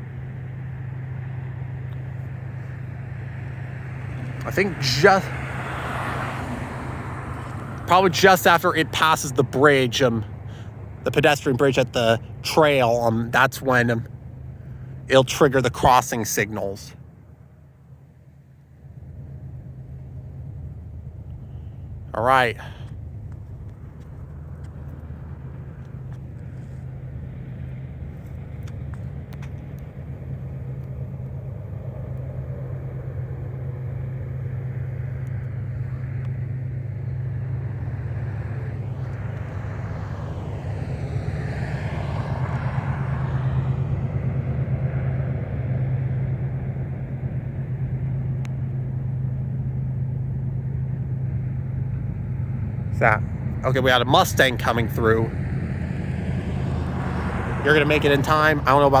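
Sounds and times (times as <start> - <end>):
car tyres on road: 0.0 - 59.0
low engine hum: 0.0 - 59.0.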